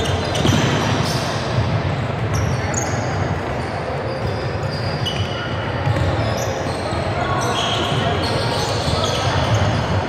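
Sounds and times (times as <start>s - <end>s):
sneakers squeaking: 0.0s - 10.0s.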